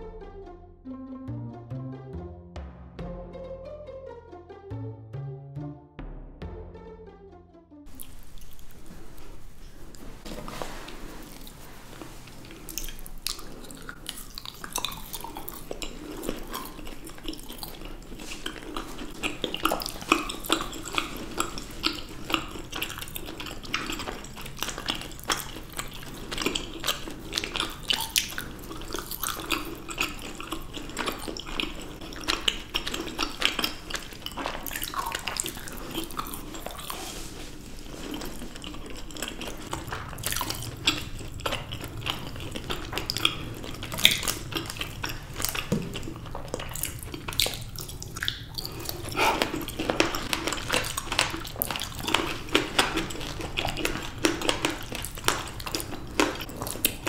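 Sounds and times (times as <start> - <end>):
chewing sticky dried fruit: 7.9 - 57.0.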